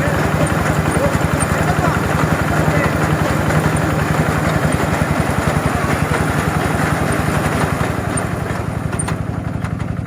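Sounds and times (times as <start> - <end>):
harvester engine running: 0.0 - 10.0.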